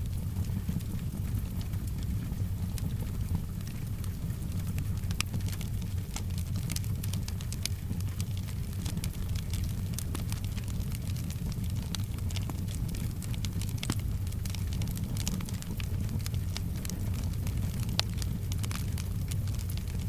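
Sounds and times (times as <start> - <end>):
soft rain: 0.0 - 20.0
wood fire crackling and popping: 0.0 - 20.0.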